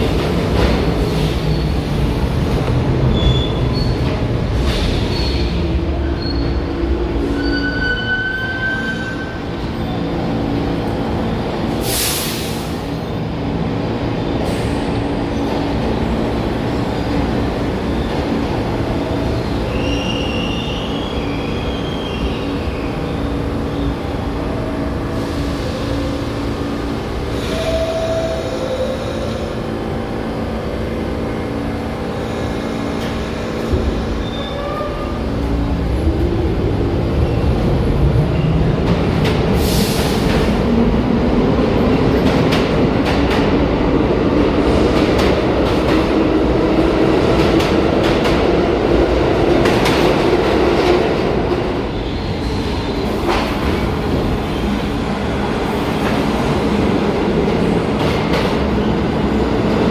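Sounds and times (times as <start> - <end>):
subway train equipment humming: 0.0 - 59.9.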